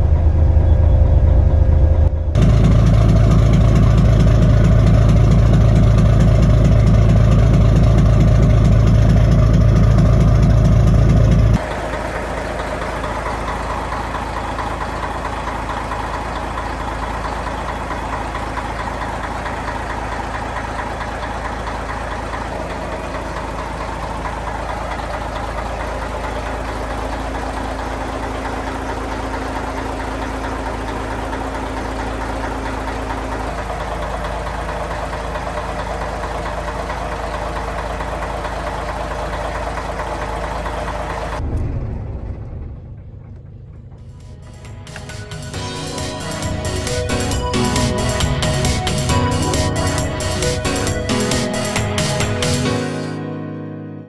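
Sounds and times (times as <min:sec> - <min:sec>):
diesel engine idling: 0:00.0 - 0:53.8.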